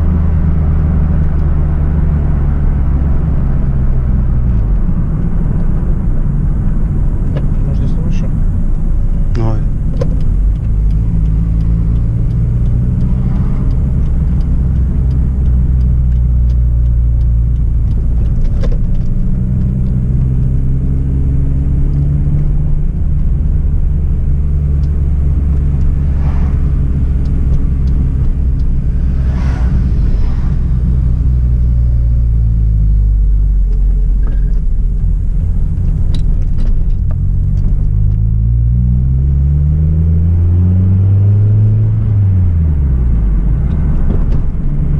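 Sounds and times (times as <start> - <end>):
car engine and exhaust droning: 0.0 - 44.9.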